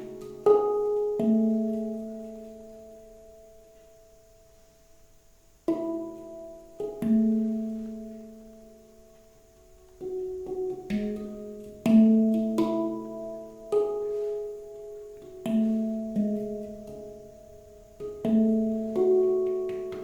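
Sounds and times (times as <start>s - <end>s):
handpan notes ringing: 0.0s - 4.6s, 5.7s - 20.0s.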